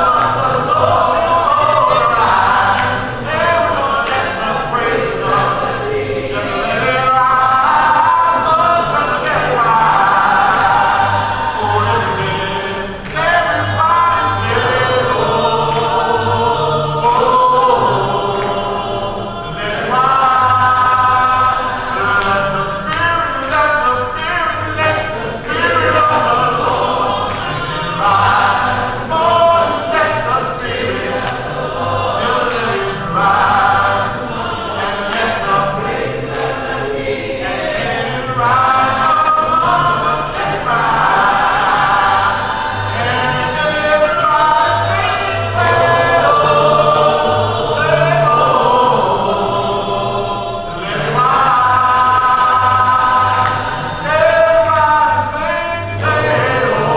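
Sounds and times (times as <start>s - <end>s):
congregation singing a hymn: 0.0s - 56.9s.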